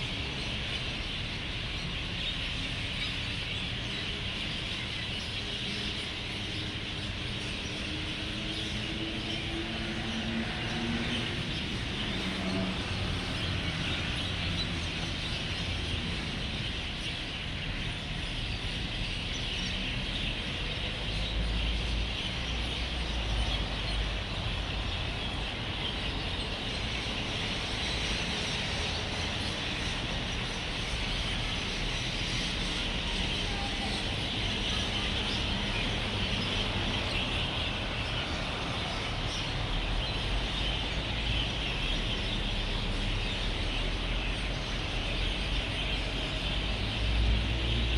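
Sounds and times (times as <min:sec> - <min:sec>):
flock of birds chirping: 0:00.0 - 0:47.9
road traffic rumble: 0:00.0 - 0:47.9.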